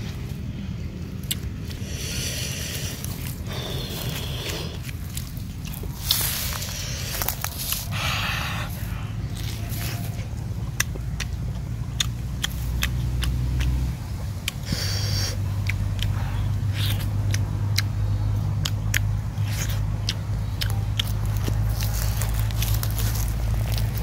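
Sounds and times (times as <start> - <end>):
man chewing and crunching: 0.0 - 24.0
steady low hum: 0.0 - 24.0.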